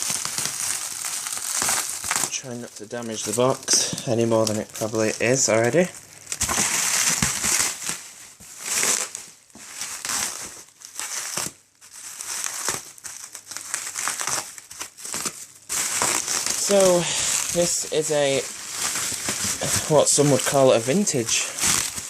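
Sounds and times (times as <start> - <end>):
cardboard packaging rustling: 0.0 - 22.0.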